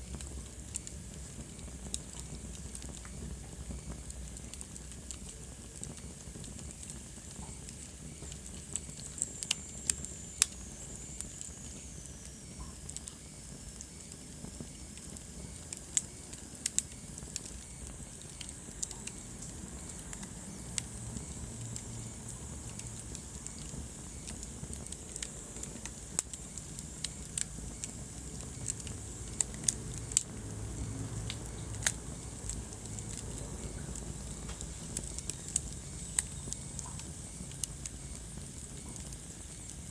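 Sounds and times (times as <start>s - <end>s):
fire low rumble and hiss: 0.0s - 39.9s
wood fire crackling and popping: 0.0s - 39.9s.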